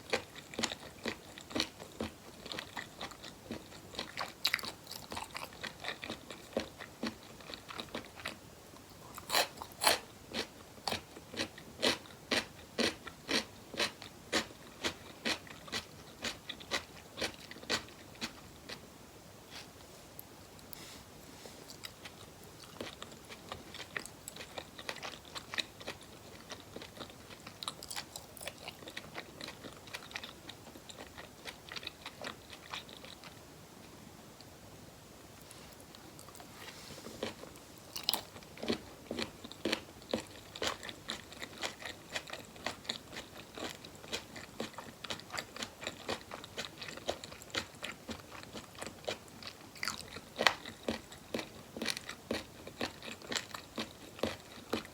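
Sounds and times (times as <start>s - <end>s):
close chewing and crunching: 0.0s - 18.9s, 21.7s - 33.5s, 35.7s - 54.9s.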